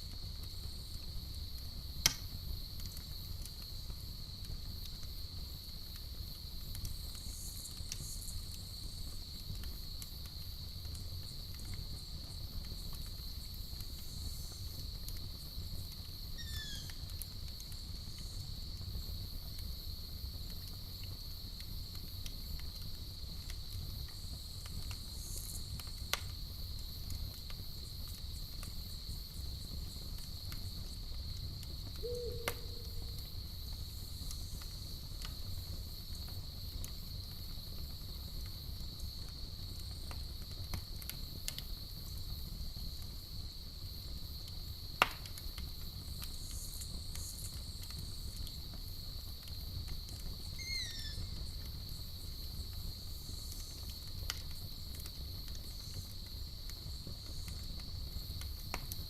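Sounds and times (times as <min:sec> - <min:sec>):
campfire crackling: 0:00.0 - 0:59.0
crickets trilling: 0:00.1 - 0:59.0.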